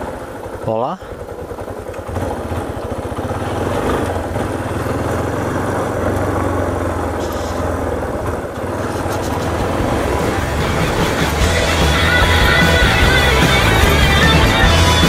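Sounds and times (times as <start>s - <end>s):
motorcycle engine on gravel road: 0.0s - 15.0s.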